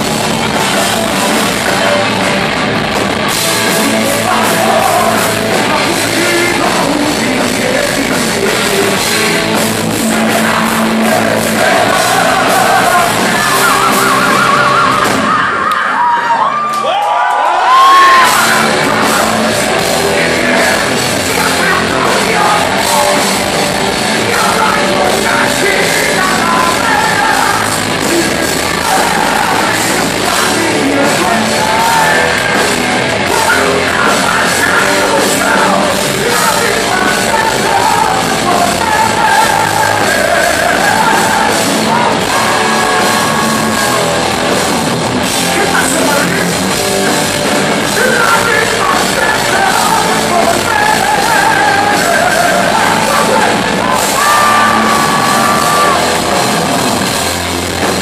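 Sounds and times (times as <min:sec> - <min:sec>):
man singing rock vocals: 0:00.0 - 0:16.2, 0:17.7 - 0:58.0
live heavy metal band: 0:00.0 - 0:58.0.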